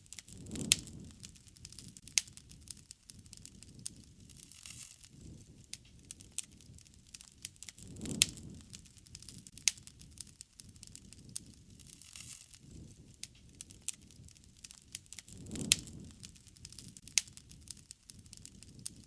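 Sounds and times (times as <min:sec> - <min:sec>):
campfire crackling and popping: 0:00.0 - 0:19.0
soft rush of flame: 0:00.0 - 0:19.0.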